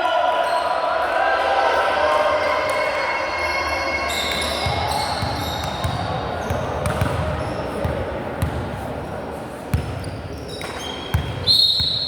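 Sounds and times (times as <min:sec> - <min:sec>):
crowd voices in a hall: 0:00.0 - 0:12.0.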